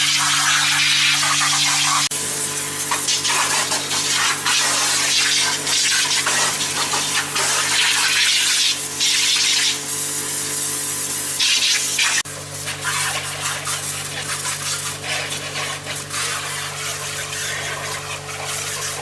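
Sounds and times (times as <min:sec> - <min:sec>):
water spraying hiss: 0:00.0 - 0:19.0.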